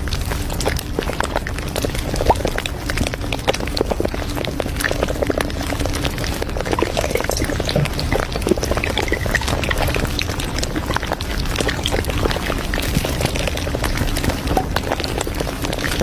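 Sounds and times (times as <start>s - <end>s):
liquid sounds: 0.0s - 16.0s
steady low rumble: 0.0s - 16.0s.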